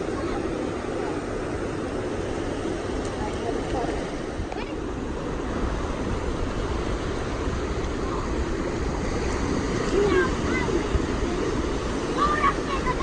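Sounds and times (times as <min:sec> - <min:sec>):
surf washing: 0:00.0 - 0:13.0
wind rumbling on microphone: 0:00.0 - 0:13.0.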